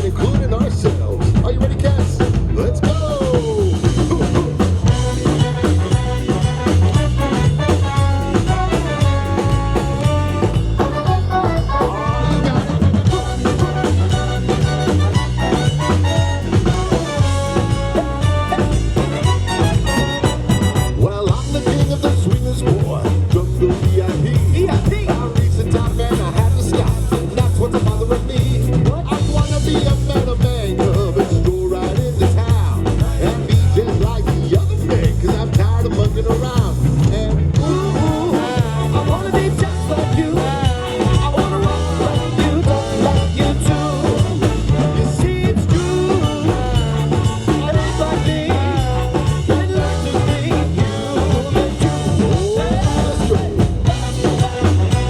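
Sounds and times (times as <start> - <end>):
drum kit steady beat: 0.0 - 55.0
swing band playing: 0.0 - 55.0.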